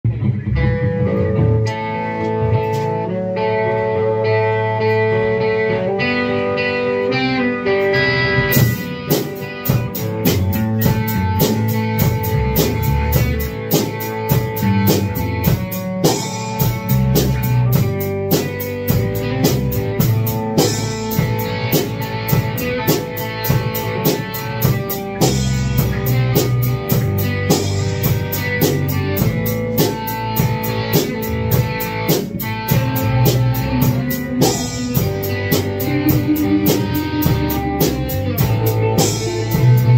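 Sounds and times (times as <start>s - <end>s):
electric guitars playing: 0.0s - 39.9s
drum kit steady beat: 0.1s - 3.4s, 5.7s - 39.9s.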